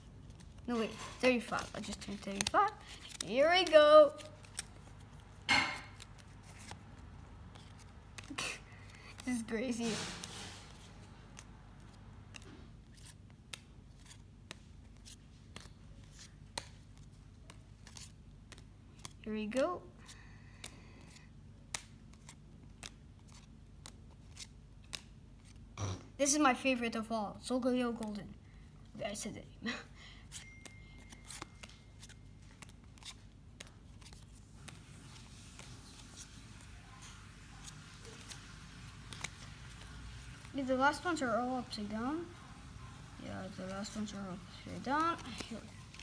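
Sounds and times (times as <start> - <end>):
cards flipping with crisp clicks: 0.2 - 19.6, 20.5 - 25.7, 30.3 - 41.9, 43.5 - 46.0.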